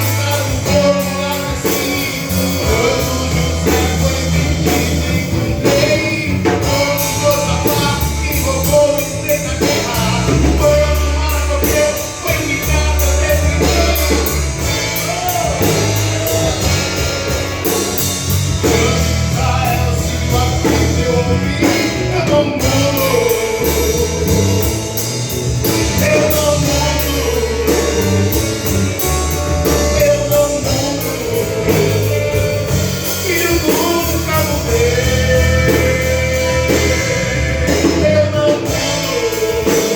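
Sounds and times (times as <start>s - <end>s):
band playing gospel song: 0.0s - 39.9s
lead voice singing: 0.0s - 39.9s.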